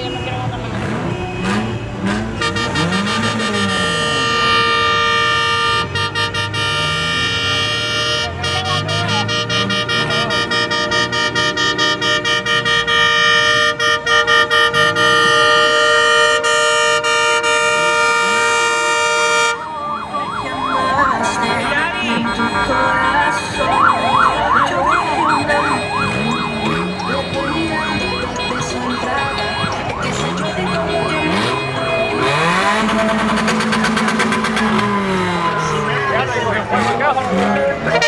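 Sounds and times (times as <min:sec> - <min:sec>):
vehicle horns blaring: 0:00.0 - 0:38.0.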